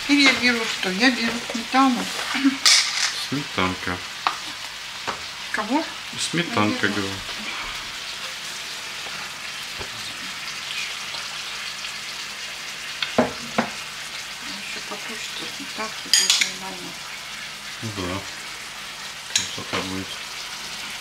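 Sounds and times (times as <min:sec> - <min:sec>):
liver sizzling in a pan: 0:00.0 - 0:21.0.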